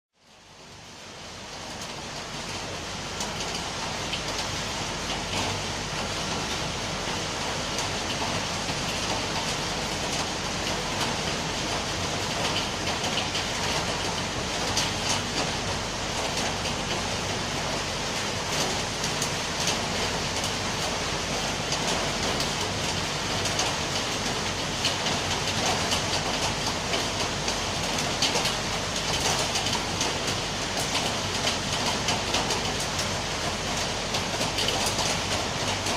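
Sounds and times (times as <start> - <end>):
steady rain with drops ticking: 0.1 - 35.9.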